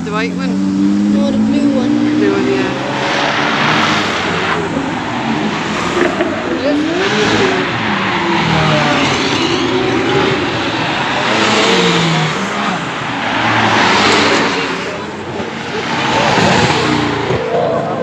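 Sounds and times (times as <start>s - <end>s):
sports cars revving and accelerating: 0.0s - 18.0s.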